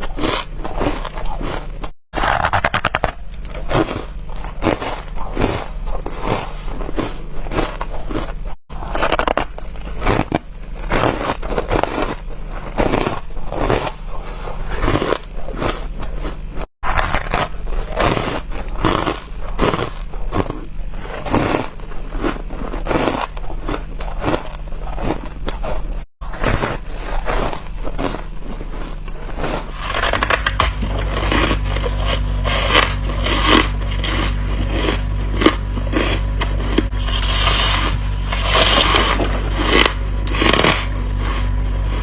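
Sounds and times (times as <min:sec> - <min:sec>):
person chewing frost crunchily: 0:00.0 - 0:42.0.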